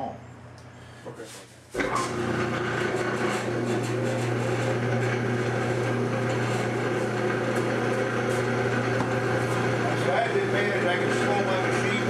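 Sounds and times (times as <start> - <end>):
buffing machine humming: 1.8 - 12.0.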